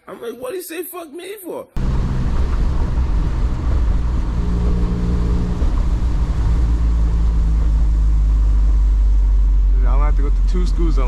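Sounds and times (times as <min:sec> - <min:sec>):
car engine low rumble: 0:01.8 - 0:11.0
extra engine tone: 0:01.8 - 0:11.0
tyre and road noise: 0:01.8 - 0:11.0.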